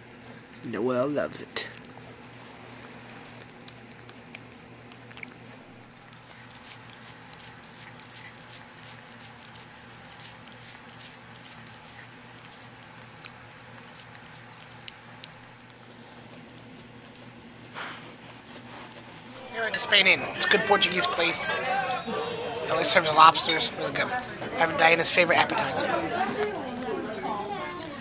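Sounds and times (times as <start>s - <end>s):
cat licking and chewing: 0.0s - 21.5s, 22.7s - 28.0s.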